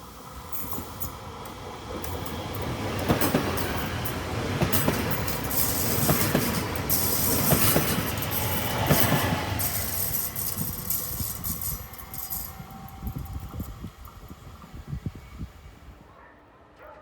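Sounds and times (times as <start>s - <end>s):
high hissing rush: 0.0s - 16.0s
train wheels clattering over rails: 0.5s - 15.3s.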